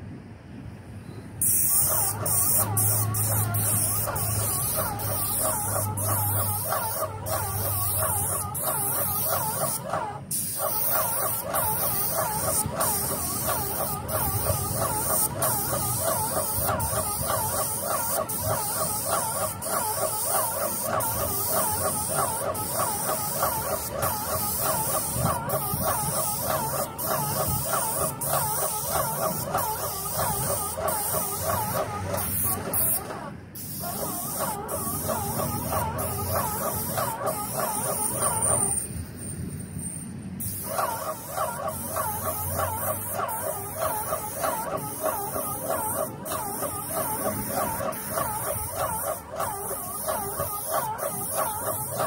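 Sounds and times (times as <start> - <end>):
paint sprayer hissing: 1.4 - 39.0, 40.4 - 52.0
wavering pulsing whine: 1.8 - 52.0.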